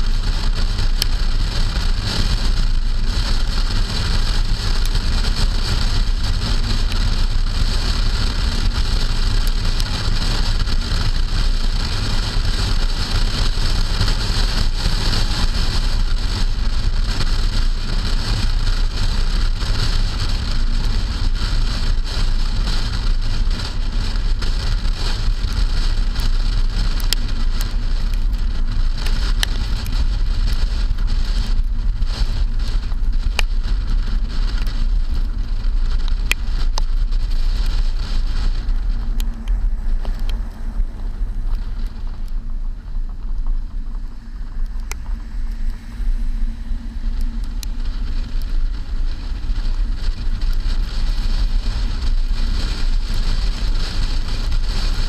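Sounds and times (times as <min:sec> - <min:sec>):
rain hiss: 0:00.0 - 0:55.0
wind and tyre noise: 0:00.0 - 0:55.0.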